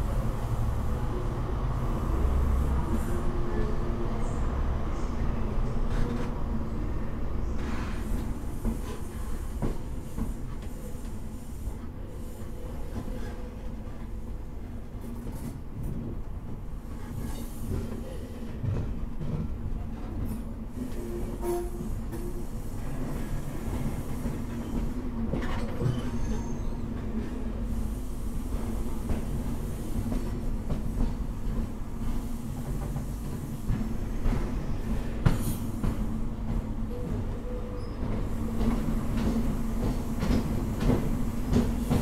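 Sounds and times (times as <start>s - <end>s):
train rumbling on track: 0.0s - 42.0s.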